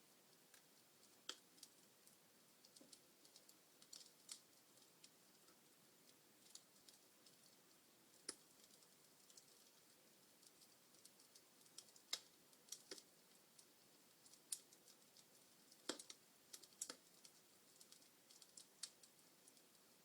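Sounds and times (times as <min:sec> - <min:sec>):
fireplace logs crackling: 0:00.0 - 0:20.0.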